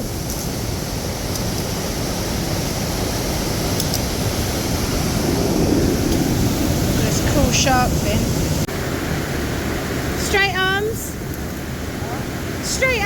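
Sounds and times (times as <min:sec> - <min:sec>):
rushing white water and waterfall: 0:00.0 - 0:13.0.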